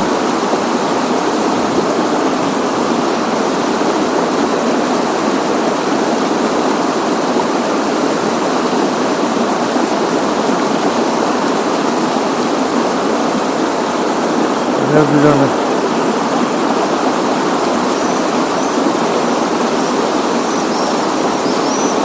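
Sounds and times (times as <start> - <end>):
river babbling over riffle: 0.0 - 22.0.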